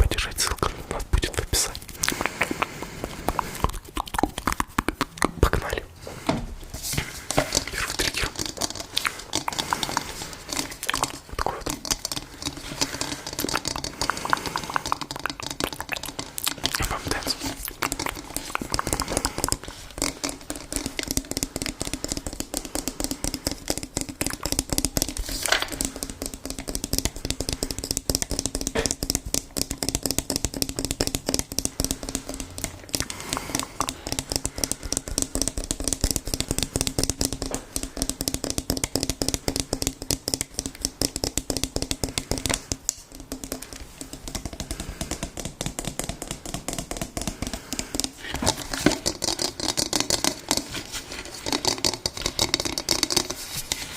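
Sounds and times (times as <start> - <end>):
light fast tapping: 7.2 - 53.9.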